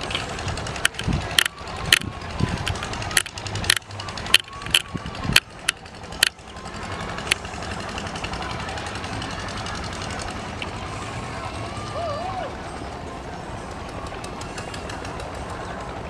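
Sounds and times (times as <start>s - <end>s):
steady low drone: 0.0s - 16.0s.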